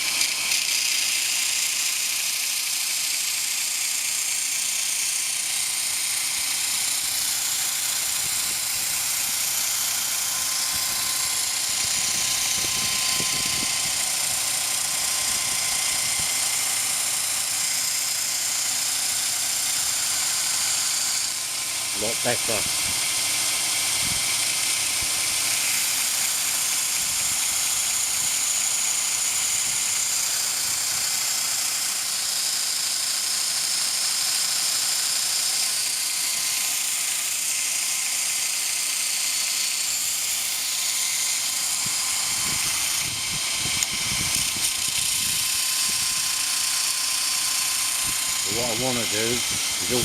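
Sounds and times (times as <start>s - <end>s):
belt grinder grinding metal: 0.0s - 50.0s.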